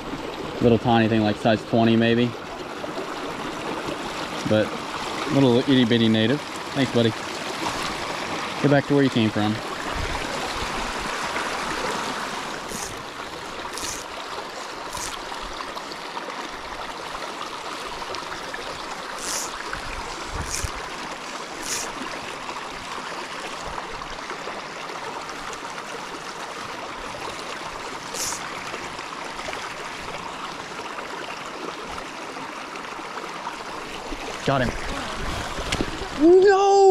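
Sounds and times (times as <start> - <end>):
creek running over stones: 0.0 - 36.9.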